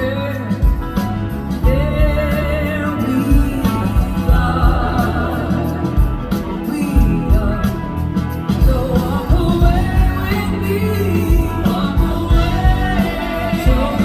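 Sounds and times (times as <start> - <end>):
bass: 0.0 - 14.0
drums steady beat: 0.0 - 14.0
gliding melodic lead line: 0.0 - 14.0.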